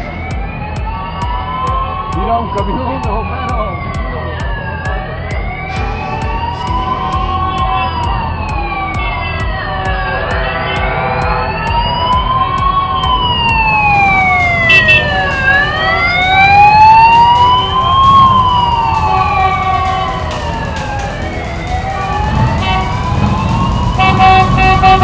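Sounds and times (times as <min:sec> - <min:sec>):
motorcycle engines rumbling: 0:00.0 - 0:25.0
police sirens wailing: 0:00.0 - 0:25.0.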